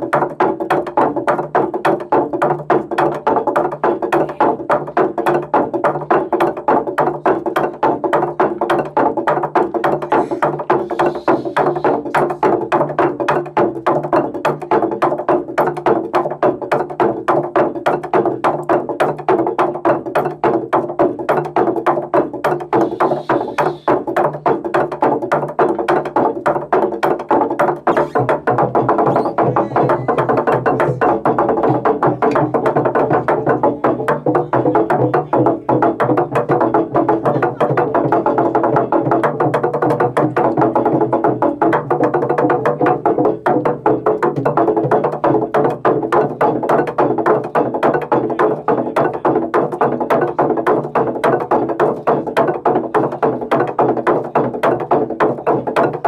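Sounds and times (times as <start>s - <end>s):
wooden slit drums beaten rapidly: 0.0s - 56.0s.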